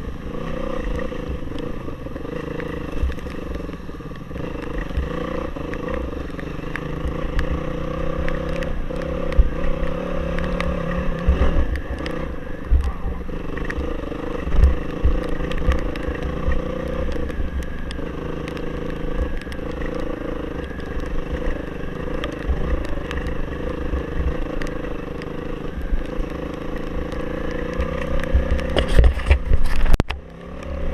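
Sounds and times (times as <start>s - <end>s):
motorcycle engine running: 0.0s - 30.9s
thumps and clatter from rough ground: 5.7s - 30.9s.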